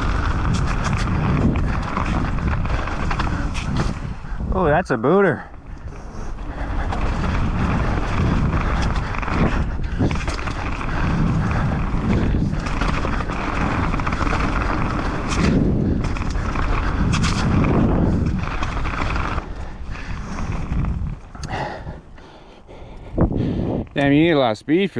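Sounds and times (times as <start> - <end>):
bike tyres rumbling over dirt: 0.0 - 24.4
wind rushing over microphone: 0.0 - 24.6.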